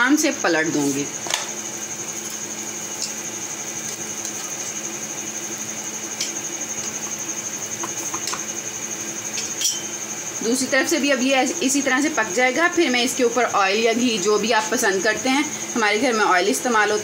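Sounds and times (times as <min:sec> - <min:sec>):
machine hum with high whine: 0:00.0 - 0:17.0.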